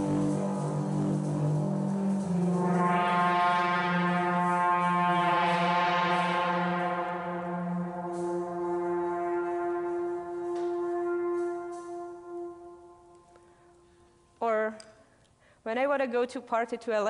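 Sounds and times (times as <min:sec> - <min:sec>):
low drone: 0:00.0 - 0:14.1.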